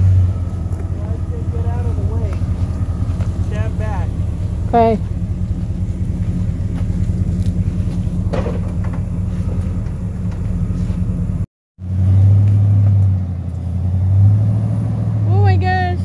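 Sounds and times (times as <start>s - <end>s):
truck engine droning under load: 0.0s - 16.0s.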